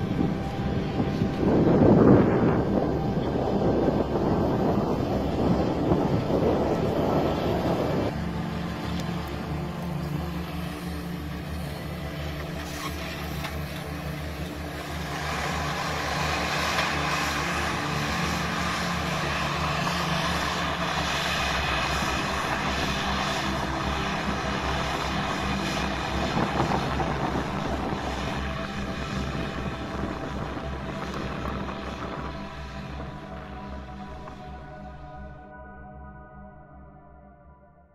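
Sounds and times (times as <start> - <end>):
drone propellers whirring: 0.0 - 35.7
high whine: 0.0 - 37.9.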